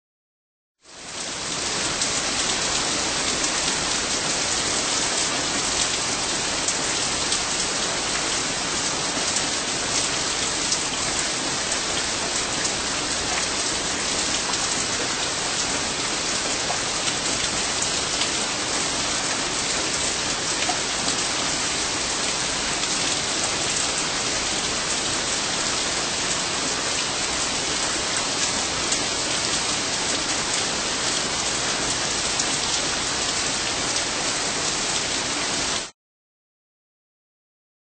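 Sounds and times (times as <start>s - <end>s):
heavy rain falling: 0.9s - 35.9s.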